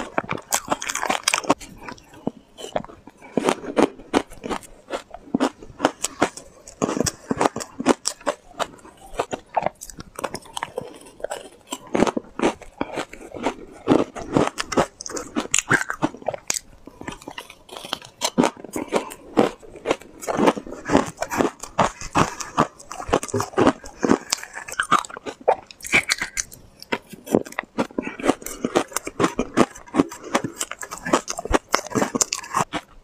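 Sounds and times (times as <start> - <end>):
crunching and chewing shaved ice: 0.0 - 33.0.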